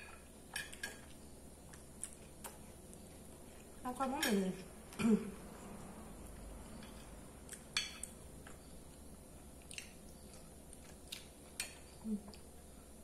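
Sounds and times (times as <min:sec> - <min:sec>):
person chewing: 0:00.0 - 0:03.8, 0:05.6 - 0:13.0.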